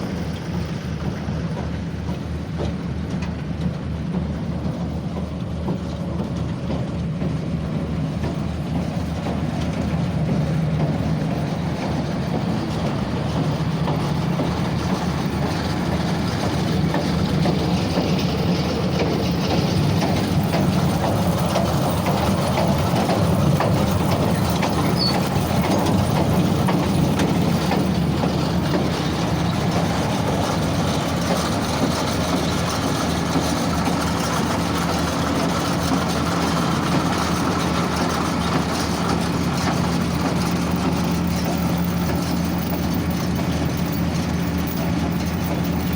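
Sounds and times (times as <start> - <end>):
tractor engine low hum: 0.0 - 45.9.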